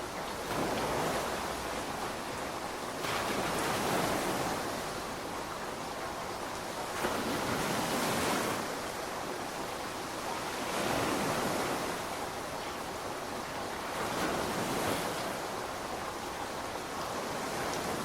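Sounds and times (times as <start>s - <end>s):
steady rainfall: 0.0s - 18.0s.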